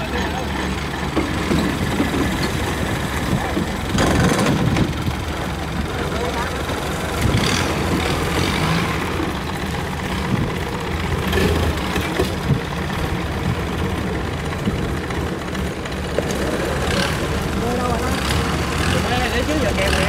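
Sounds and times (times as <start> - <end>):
heavy engine rumbling: 0.0 - 20.0.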